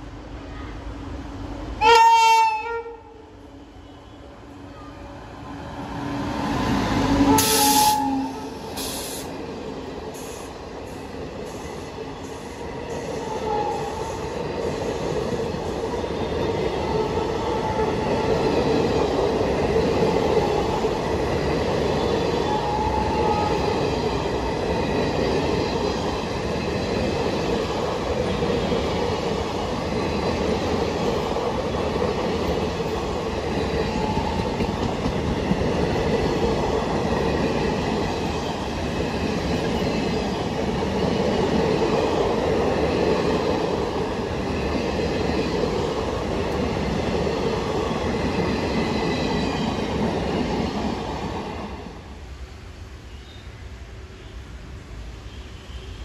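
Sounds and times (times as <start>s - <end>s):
train coaches rolling past: 0.0s - 56.0s.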